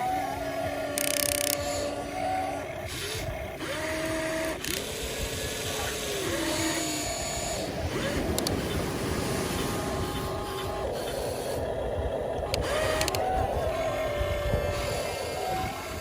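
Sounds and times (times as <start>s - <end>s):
small electric motors whining: 0.0s - 16.0s.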